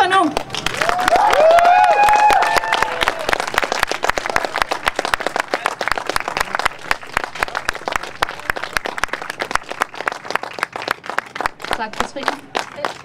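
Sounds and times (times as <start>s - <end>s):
crowd applauding: 0.4s - 13.0s.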